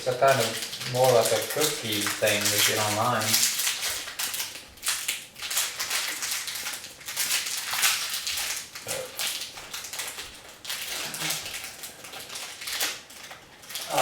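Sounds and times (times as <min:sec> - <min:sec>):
plastic wrapper crinkling: 0:00.0 - 0:14.0.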